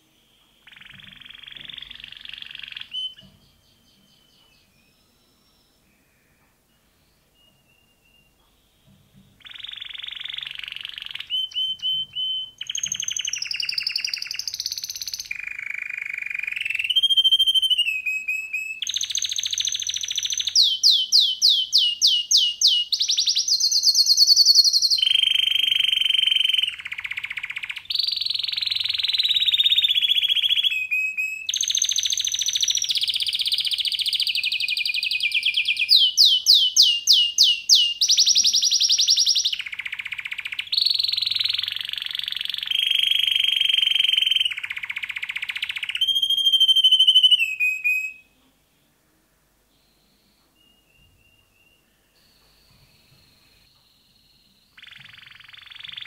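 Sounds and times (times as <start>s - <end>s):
canary singing trills: 0.0s - 48.5s, 49.7s - 56.0s.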